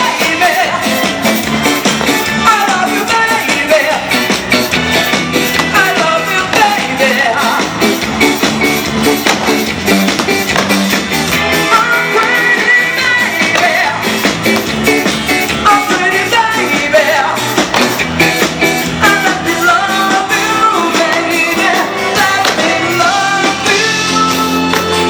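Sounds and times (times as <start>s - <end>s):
live band playing pop-rock: 0.0s - 25.0s.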